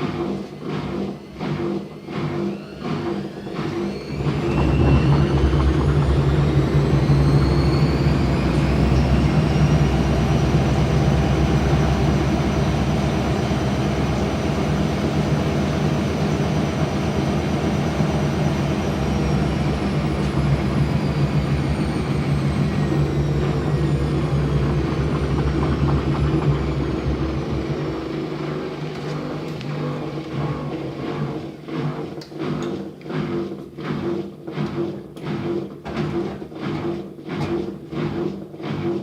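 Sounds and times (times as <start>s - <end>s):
washing machine droning: 0.0s - 39.0s
washing machine whine: 0.0s - 39.0s.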